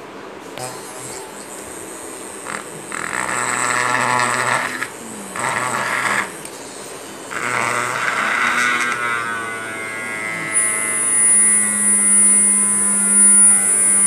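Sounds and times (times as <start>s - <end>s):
high thin whine: 0.0s - 14.0s
electric drill boring into board: 1.7s - 6.6s, 7.3s - 14.0s.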